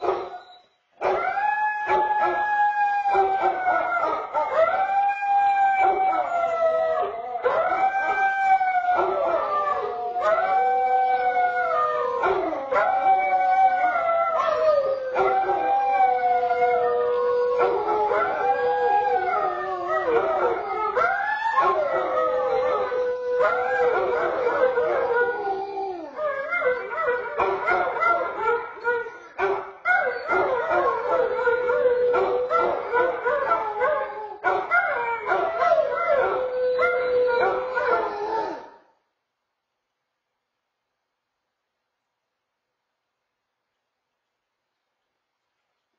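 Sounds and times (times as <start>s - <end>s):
dogs howling: 1.0s - 29.3s, 29.9s - 38.7s.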